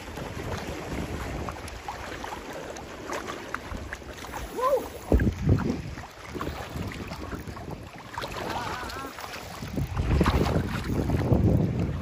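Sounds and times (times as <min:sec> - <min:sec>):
water sloshing around boat: 0:00.0 - 0:12.0.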